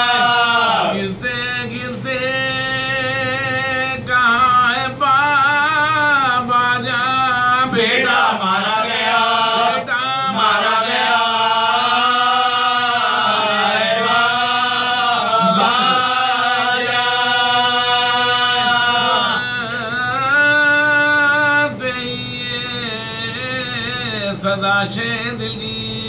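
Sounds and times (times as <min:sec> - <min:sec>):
men chanting unaccompanied: 0:00.0 - 0:26.0.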